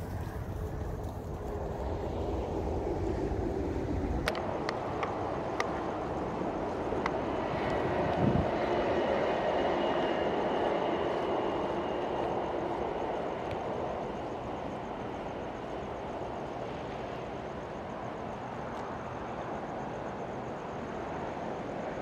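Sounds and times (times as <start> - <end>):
wheels rumbling on track: 0.0 - 19.9
faint high whine: 0.0 - 22.0.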